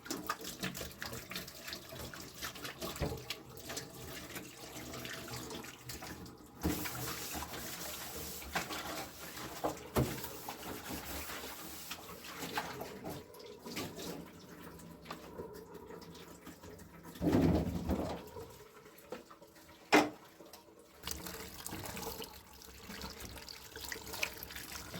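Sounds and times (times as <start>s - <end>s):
water splashing into a sink: 0.0s - 24.9s.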